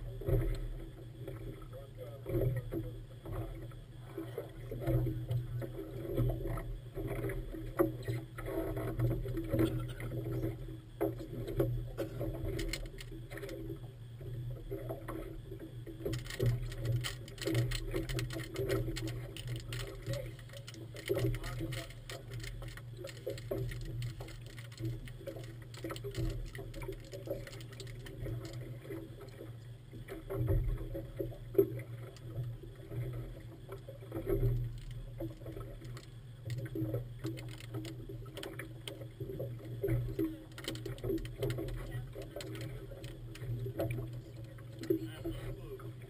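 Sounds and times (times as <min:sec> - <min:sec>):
motorboat engine humming: 0:00.0 - 0:46.0
water splashing against hull: 0:00.0 - 0:46.0.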